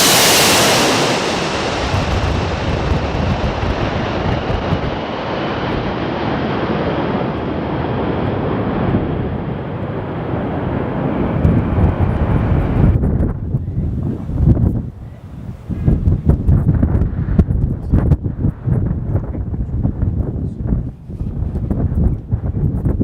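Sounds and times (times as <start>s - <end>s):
jet airliner passing: 0.0s - 19.6s
wind buffeting microphone: 0.0s - 23.0s.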